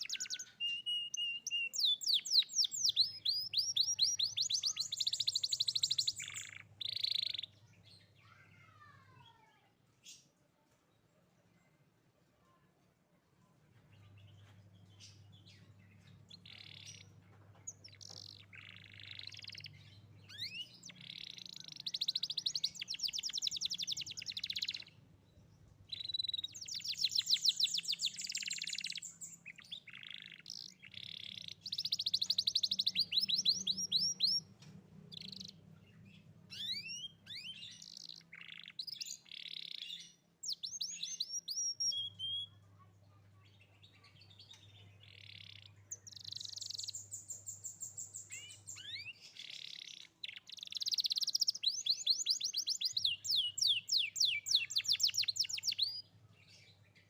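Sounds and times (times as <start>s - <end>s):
canary singing: 0.0s - 9.1s, 13.9s - 42.8s, 43.4s - 57.0s.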